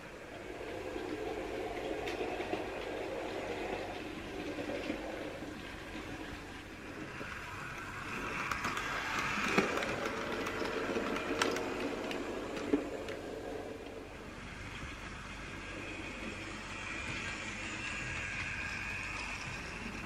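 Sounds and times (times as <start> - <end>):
model train rolling and motor hum: 0.0 - 20.0
wheels clicking on track: 0.0 - 20.0.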